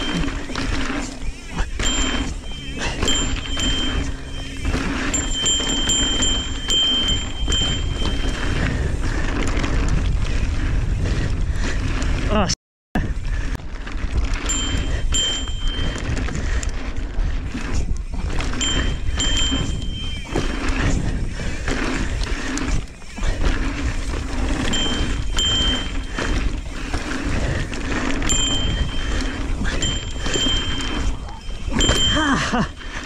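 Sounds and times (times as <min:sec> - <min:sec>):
tyres rumbling over dirt: 0:00.0 - 0:33.0
wind buffeting microphone: 0:00.0 - 0:33.0.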